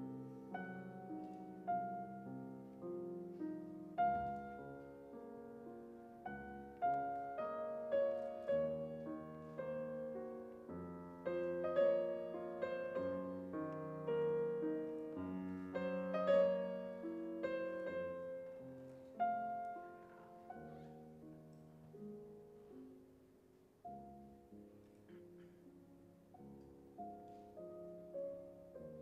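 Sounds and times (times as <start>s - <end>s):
solo piano music: 0.0s - 29.0s.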